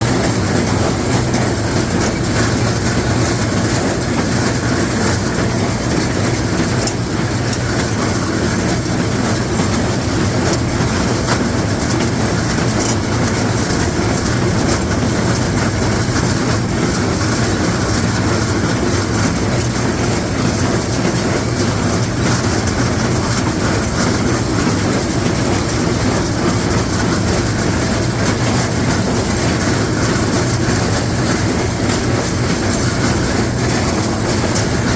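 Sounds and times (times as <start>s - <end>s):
baler mechanical clatter: 0.0s - 34.9s
tractor engine running: 0.0s - 34.9s.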